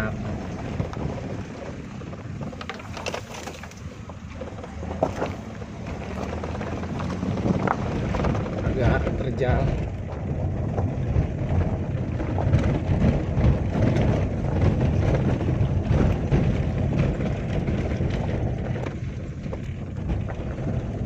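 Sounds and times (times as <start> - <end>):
car knocks and rattles: 0.0 - 21.0
engine and tyre rumble: 0.0 - 21.0.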